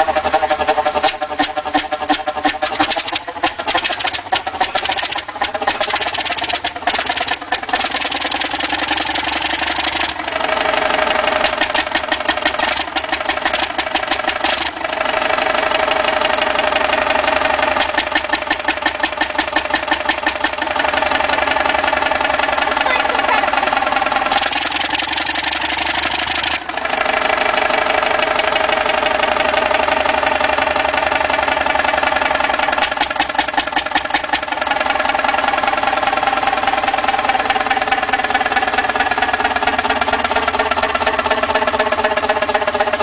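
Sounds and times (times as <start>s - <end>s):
old engine running: 0.0s - 43.0s.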